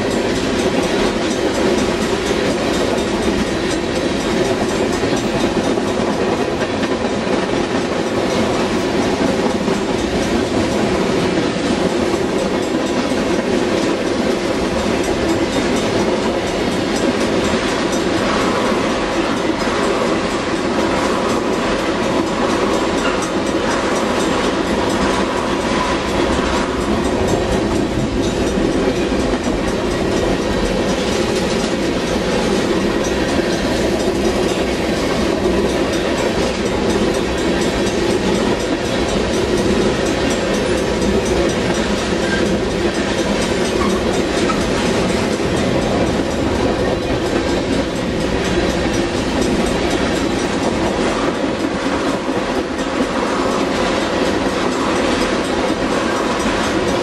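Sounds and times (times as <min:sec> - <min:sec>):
steel wheels on rails: 0:00.0 - 0:57.0.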